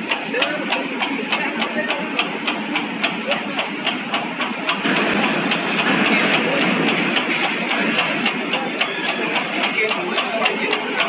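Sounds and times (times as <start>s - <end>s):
machine clattering steadily: 0.0s - 11.0s.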